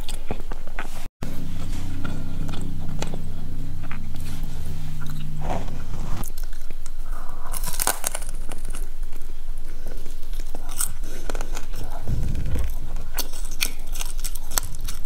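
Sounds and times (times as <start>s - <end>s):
crunching and chewing crispy food: 0.0s - 5.3s, 6.2s - 12.1s, 13.1s - 15.0s
low hum: 1.2s - 10.6s, 11.4s - 15.0s.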